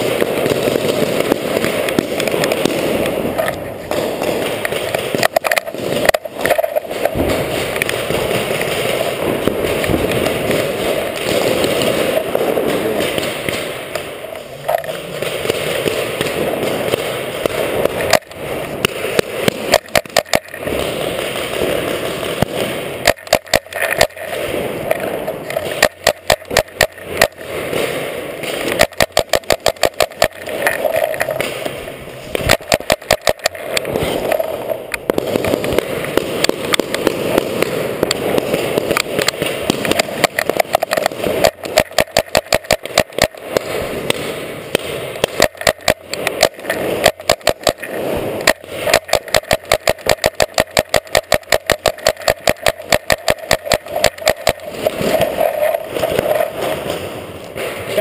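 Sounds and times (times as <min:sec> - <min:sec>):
paintball markers firing: 0:00.0 - 0:58.0.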